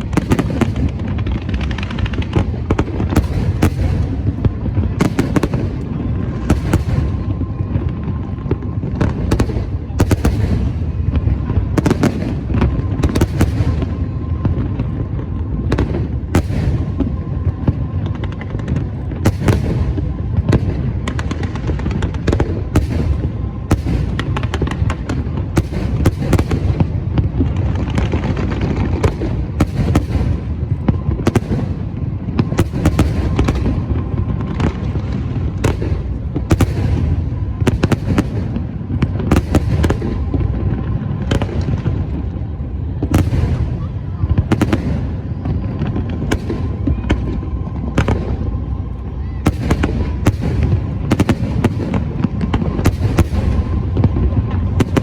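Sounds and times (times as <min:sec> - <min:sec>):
rumble of fireworks launches: 0:00.0 - 0:55.0.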